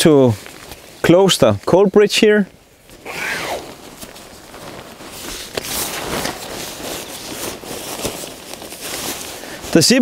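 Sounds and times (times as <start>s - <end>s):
coated fabric rustling: 0.0s - 10.0s.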